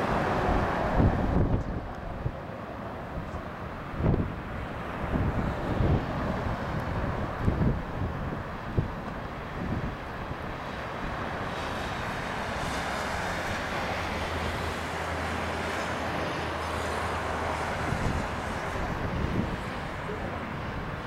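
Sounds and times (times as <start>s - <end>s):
jet engines at climb power: 0.0s - 21.0s.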